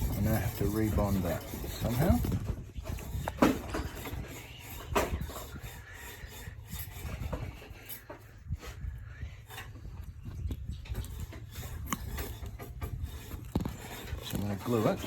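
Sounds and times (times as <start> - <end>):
parts rubbing and scraping: 0.0 - 15.0.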